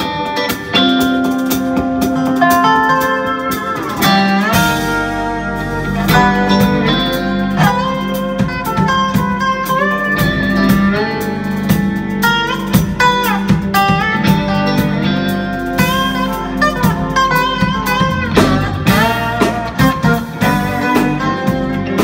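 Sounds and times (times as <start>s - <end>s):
guitar accompaniment: 0.0s - 22.0s
live acoustic band playing: 0.0s - 22.0s
resonator slide guitar lead: 0.0s - 22.0s
steady bass line: 0.0s - 22.0s.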